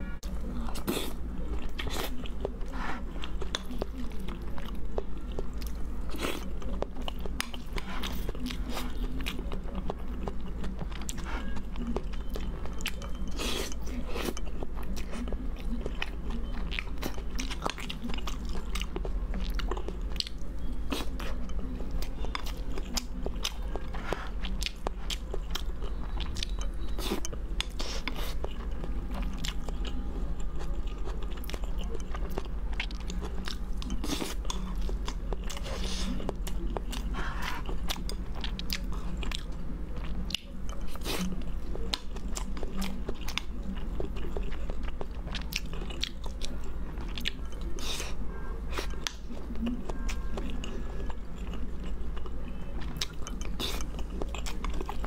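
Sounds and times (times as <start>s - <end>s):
wet chewing and mouth clicks: 0.5s - 55.0s.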